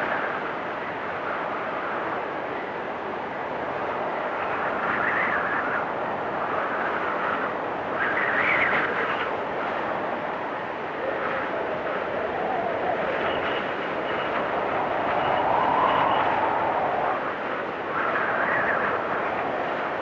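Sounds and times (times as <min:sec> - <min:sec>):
blizzard wind with whistling gusts: 0:00.0 - 0:20.0.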